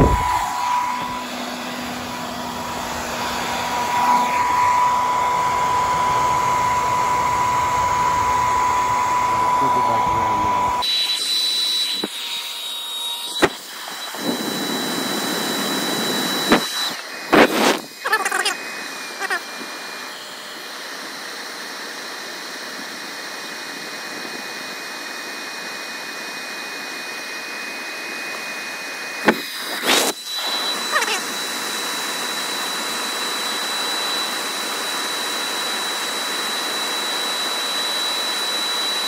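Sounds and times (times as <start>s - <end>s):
hair dryer blowing: 0.0s - 39.0s.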